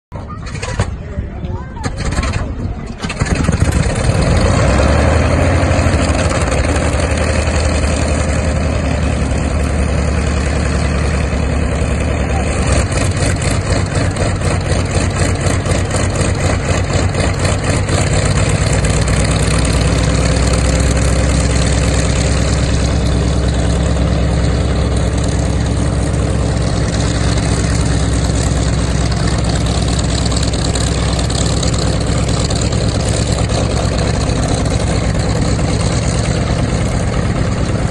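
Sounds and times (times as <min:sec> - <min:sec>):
radial aircraft engine idling: 0:01.7 - 0:37.9.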